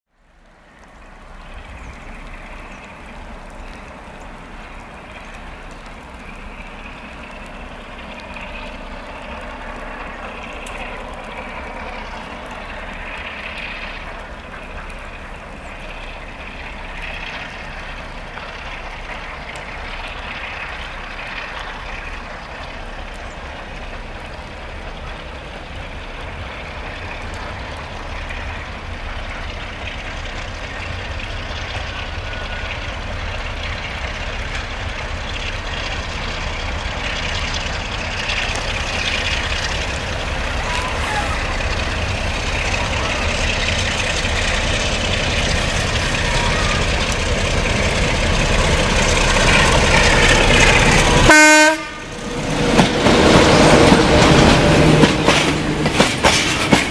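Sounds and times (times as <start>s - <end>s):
rain hiss: 0.1s - 56.9s
locomotive engine rumble: 0.2s - 56.9s.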